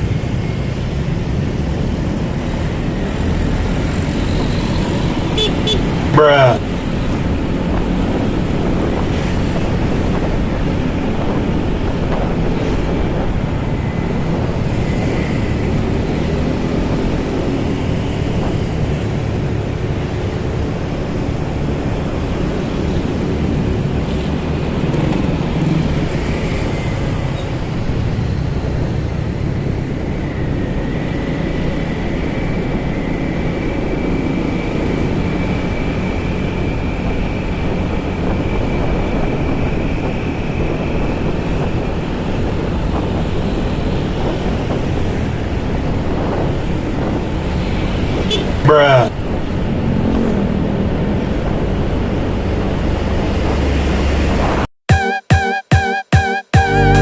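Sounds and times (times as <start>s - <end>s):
wind buffeting microphone: 0.0s - 54.7s
road and traffic noise: 0.0s - 54.8s.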